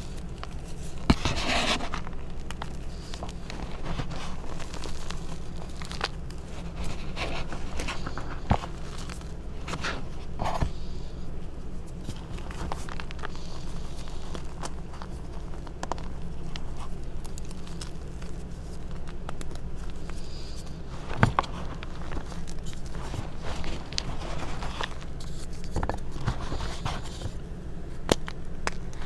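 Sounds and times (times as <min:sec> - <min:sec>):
chalk chunks cracking: 0:00.0 - 0:11.0, 0:11.6 - 0:29.0
chalk crunching and crumbling: 0:00.0 - 0:29.0.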